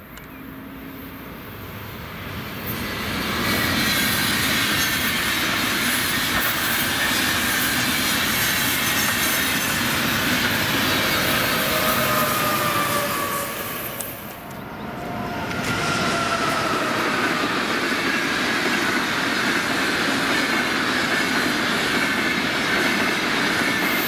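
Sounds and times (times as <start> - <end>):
train wheels rumbling on rails: 1.5 - 24.0.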